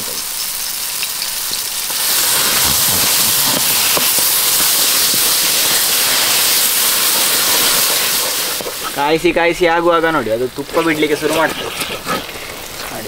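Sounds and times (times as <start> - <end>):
banana sizzling in hot ghee: 0.0 - 13.0
small crackles and pops: 0.0 - 13.0.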